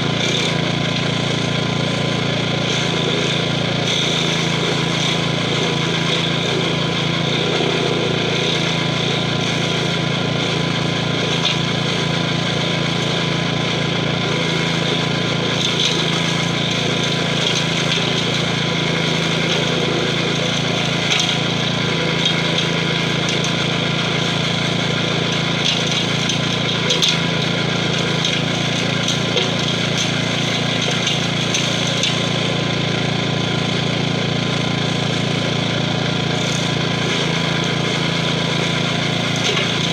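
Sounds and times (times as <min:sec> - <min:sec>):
engine running under load: 0:00.0 - 0:39.9
stump grinder cutting stump: 0:00.0 - 0:39.9.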